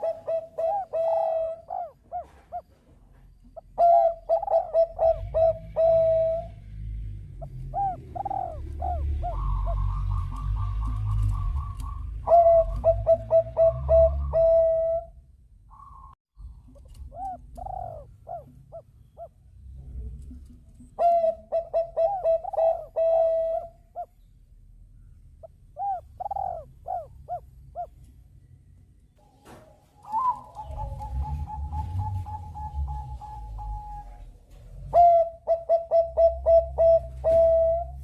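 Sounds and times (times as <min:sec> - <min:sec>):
dove cooing: 0:00.0 - 0:02.8, 0:03.5 - 0:06.6, 0:07.4 - 0:16.1, 0:16.7 - 0:19.4, 0:20.4 - 0:24.1, 0:25.4 - 0:28.0, 0:30.0 - 0:38.0.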